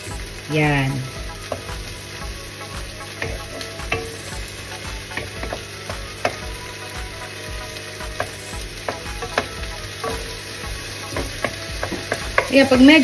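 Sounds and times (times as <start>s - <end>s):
vegetables sizzling in a wok: 0.0s - 13.0s
spatula tapping and scraping pan: 1.3s - 12.8s.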